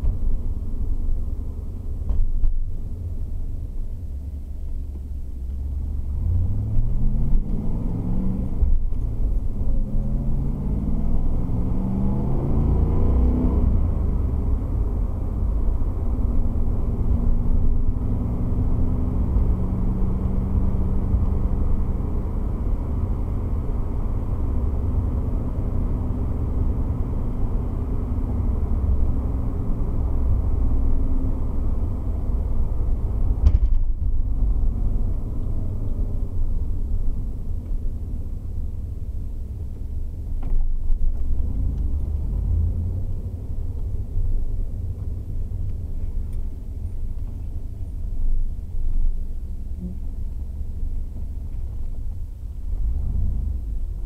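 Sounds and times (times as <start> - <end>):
car engine from inside cabin: 0.0 - 54.0
road rumble: 0.0 - 54.0.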